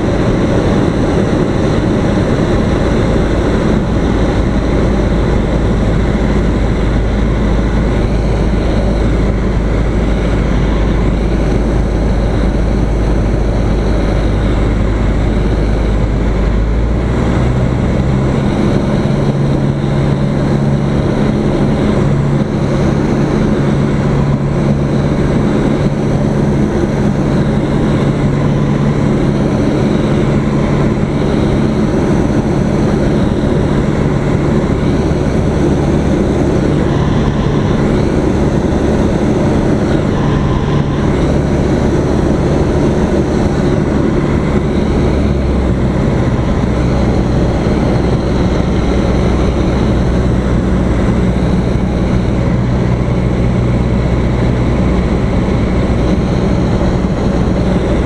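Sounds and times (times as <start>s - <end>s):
airflow noise: 0.0s - 58.0s
propeller airplane engine droning: 0.0s - 58.0s.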